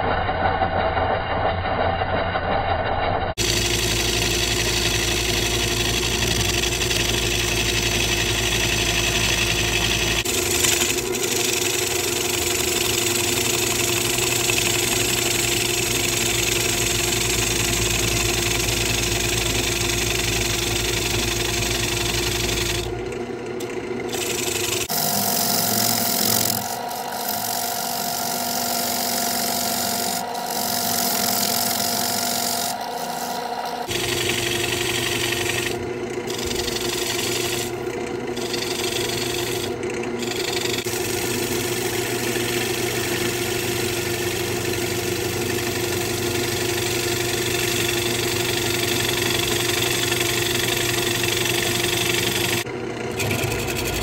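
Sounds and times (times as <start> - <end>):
gouge scraping wooden bowl: 3.4 - 22.9, 24.1 - 52.6, 53.2 - 54.0
wood lathe humming: 3.4 - 54.0.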